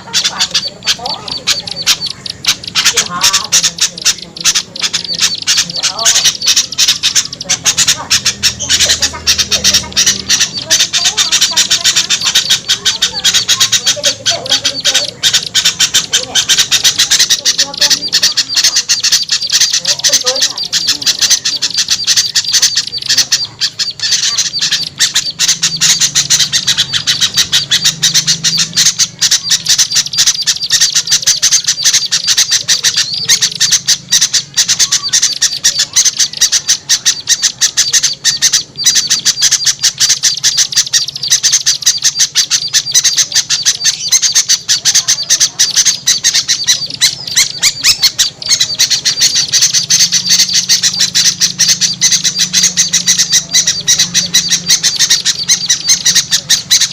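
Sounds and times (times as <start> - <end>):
small birds chattering: 0.0 - 56.9.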